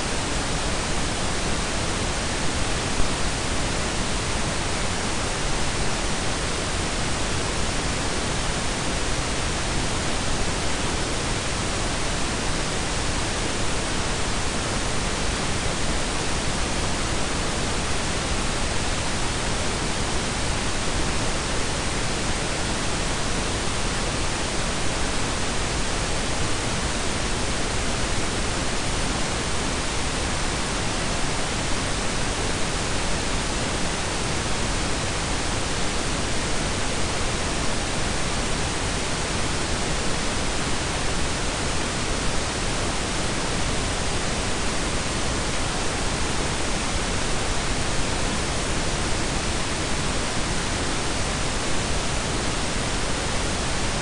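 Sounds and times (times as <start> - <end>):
steady noise hiss: 0.0 - 54.0.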